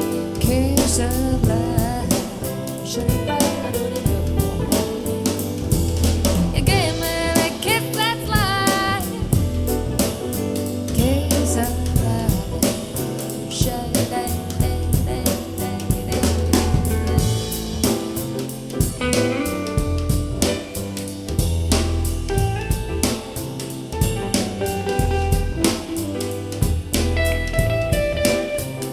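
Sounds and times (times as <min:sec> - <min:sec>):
soul jazz music: 0:00.0 - 0:28.9.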